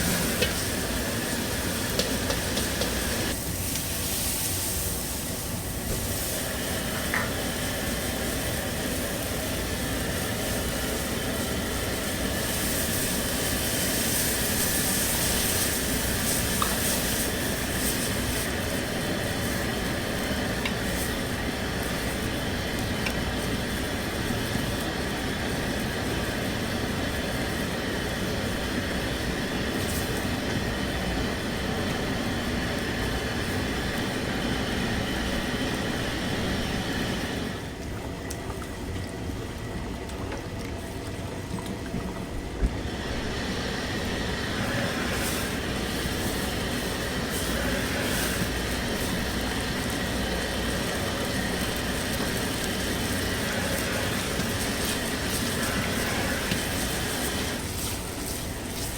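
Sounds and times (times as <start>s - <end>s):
commercial kitchen roar: 0.0s - 58.9s.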